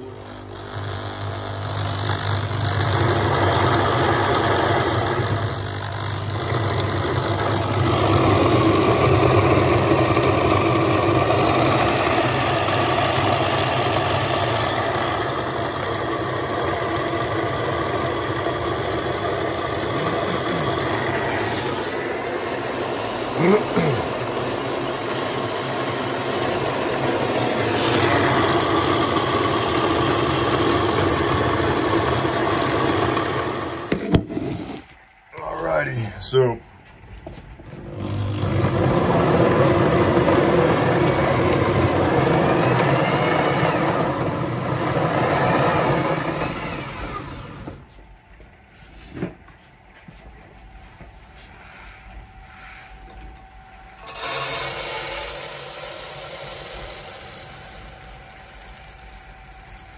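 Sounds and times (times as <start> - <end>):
grain mill crushing grain: 0.0 - 36.2, 37.7 - 47.9, 52.6 - 59.9.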